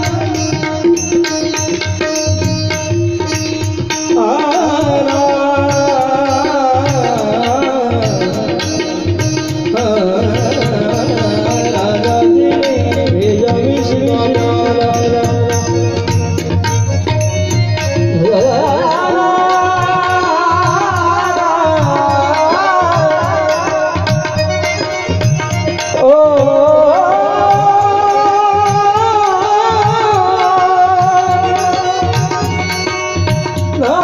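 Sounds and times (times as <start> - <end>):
hand drum rhythm: 0.0 - 34.0.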